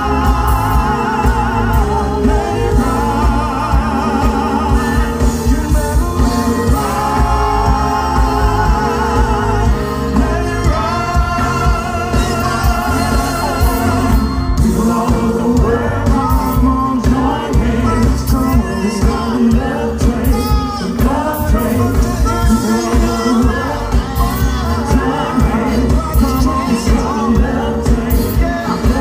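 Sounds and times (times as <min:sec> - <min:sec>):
backing vocalists singing: 0:00.0 - 0:29.0
man singing lead: 0:00.0 - 0:29.0
soul band playing: 0:00.0 - 0:29.0.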